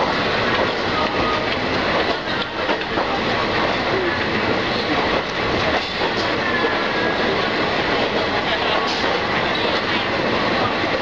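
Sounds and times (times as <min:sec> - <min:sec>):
clicks of train wheels: 0:00.0 - 0:03.7, 0:04.7 - 0:11.0
train wheels rumbling on rails: 0:00.0 - 0:11.0.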